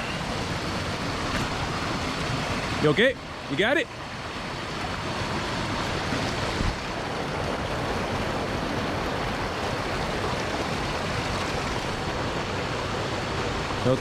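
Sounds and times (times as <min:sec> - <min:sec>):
stream flowing over rocks: 0:00.0 - 0:14.0.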